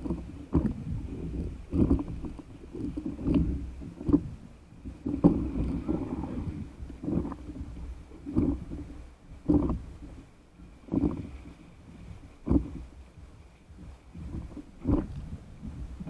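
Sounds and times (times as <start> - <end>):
water slapping against paddle board: 0.0 - 16.0.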